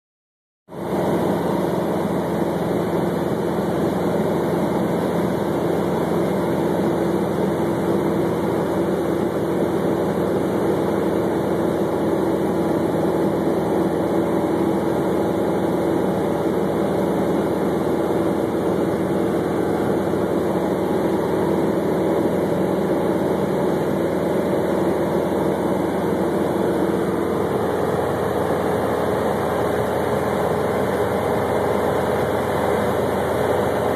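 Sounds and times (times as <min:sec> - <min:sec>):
light aircraft engine hum: 0:00.7 - 0:33.9.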